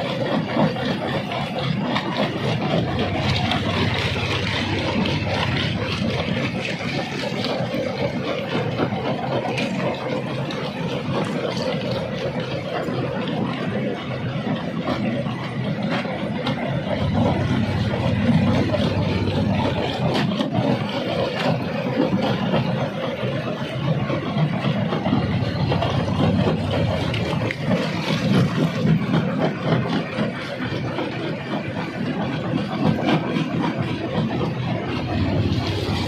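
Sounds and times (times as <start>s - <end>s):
machine motor drone: 0.0s - 36.0s.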